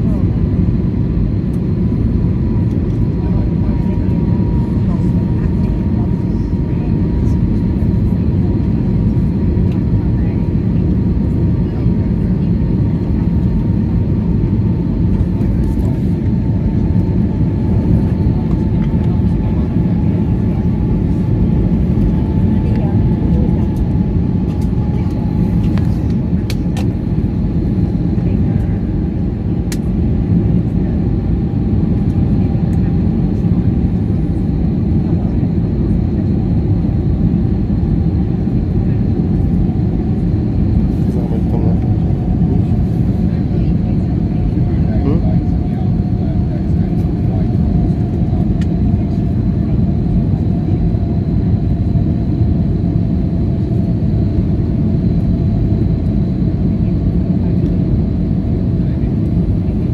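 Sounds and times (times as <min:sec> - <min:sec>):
aircraft engine rumble: 0:00.0 - 0:59.9.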